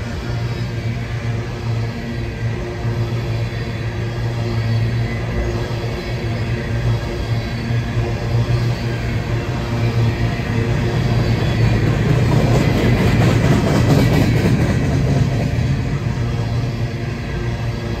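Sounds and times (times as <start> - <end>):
low drone: 0.0 - 18.0
train wheels rumbling and clattering: 0.0 - 18.0.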